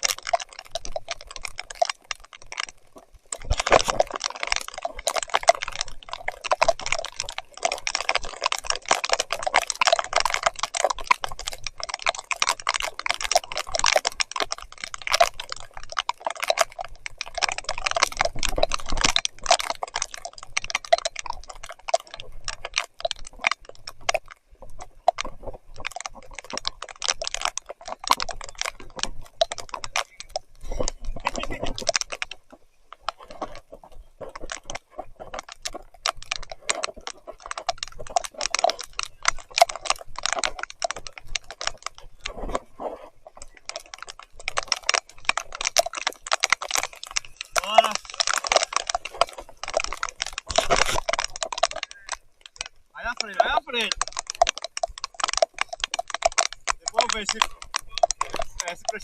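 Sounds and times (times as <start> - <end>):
mountain bike clattering on muddy trail: 0.0 - 59.0.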